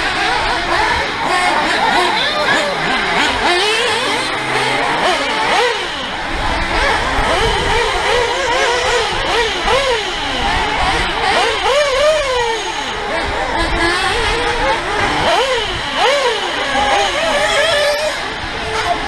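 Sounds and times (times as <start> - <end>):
remote control cars revving: 0.0 - 19.0.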